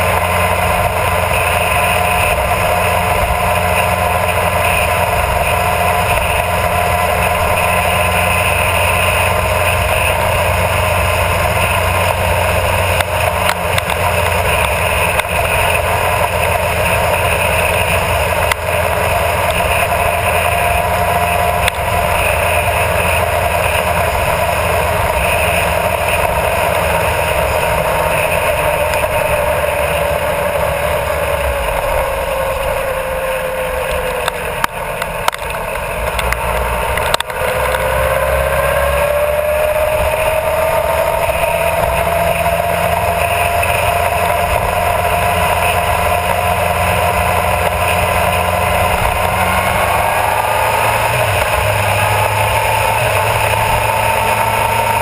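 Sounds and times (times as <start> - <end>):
motorcycle engine at speed: 0.0 - 55.0
wind and road noise: 0.0 - 55.0.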